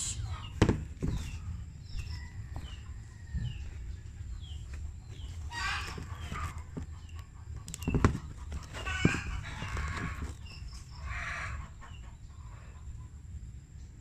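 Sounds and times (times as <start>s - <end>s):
chickens peeping: 0.0s - 13.2s.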